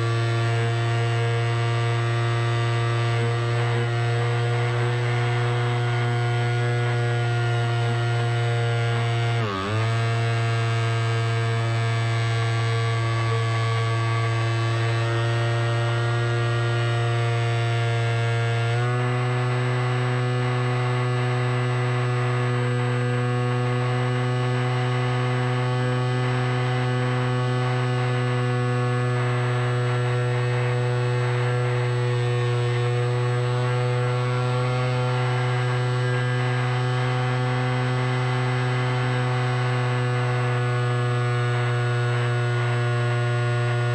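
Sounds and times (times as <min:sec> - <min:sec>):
drone buzzing hum: 0:00.0 - 0:43.9.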